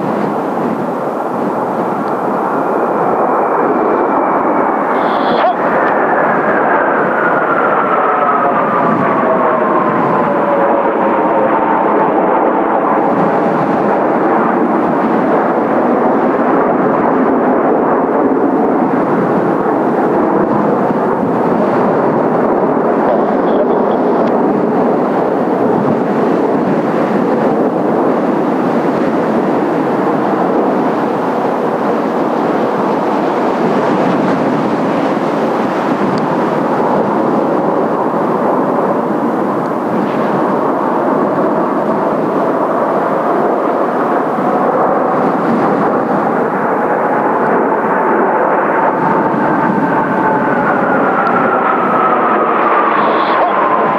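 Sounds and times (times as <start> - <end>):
jet engines roaring: 0.0 - 53.9.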